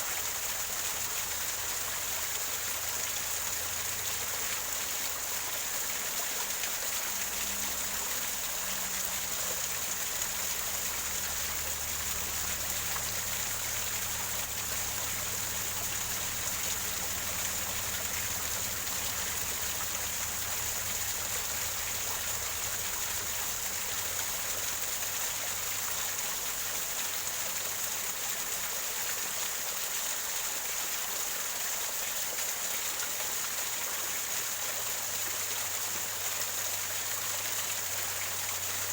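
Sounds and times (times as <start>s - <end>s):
waterfall over rocks: 0.0s - 38.9s.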